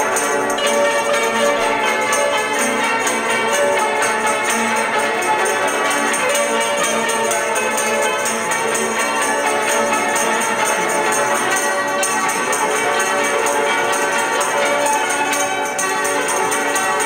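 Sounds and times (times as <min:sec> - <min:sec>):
hammered dulcimers playing: 0:00.0 - 0:17.0
tambourine jingling: 0:00.0 - 0:17.0.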